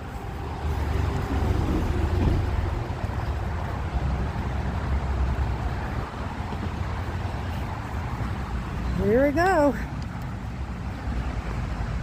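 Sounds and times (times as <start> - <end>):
highway traffic rumble: 0.0 - 12.0
wind buffeting microphone: 0.0 - 12.0.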